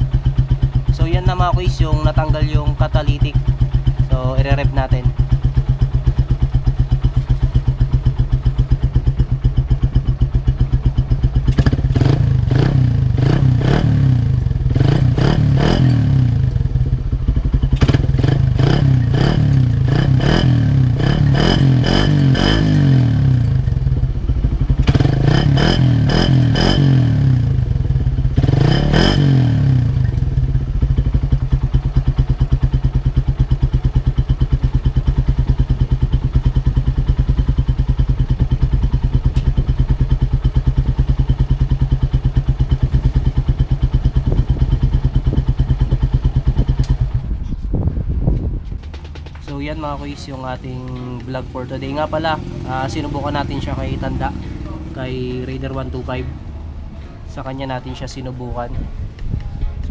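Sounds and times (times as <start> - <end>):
motorcycle idling: 0.0 - 59.9
motorcycle revving: 0.0 - 59.9.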